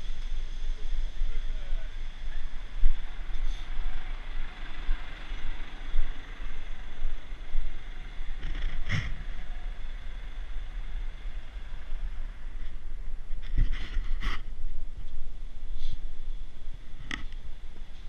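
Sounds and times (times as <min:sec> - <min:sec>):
tractor engine running: 0:00.0 - 0:18.0
wind rumble on microphone: 0:00.0 - 0:18.0.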